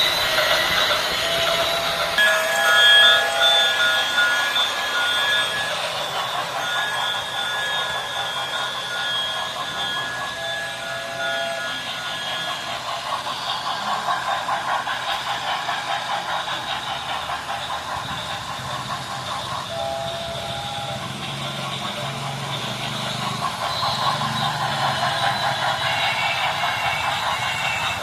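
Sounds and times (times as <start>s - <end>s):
high whistle-like tones: 0.0s - 14.1s, 19.3s - 28.0s
model train chuffing clatter: 0.0s - 28.0s.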